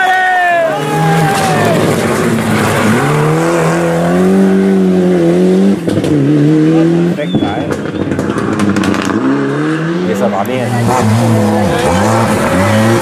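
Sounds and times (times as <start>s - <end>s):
rally car engine revving: 0.5s - 13.0s.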